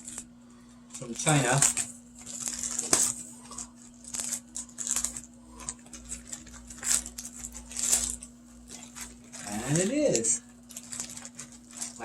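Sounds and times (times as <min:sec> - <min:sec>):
low electrical hum: 0:00.0 - 0:12.0
packaging crinkling and tearing: 0:00.9 - 0:12.0.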